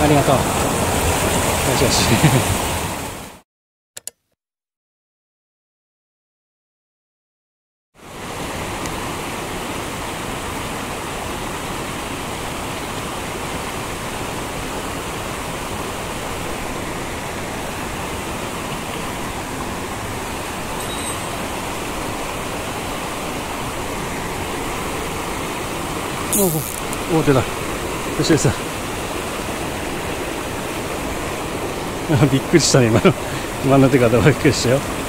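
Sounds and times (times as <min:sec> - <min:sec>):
mountain stream rushing: 0:00.0 - 0:03.4, 0:08.0 - 0:35.0.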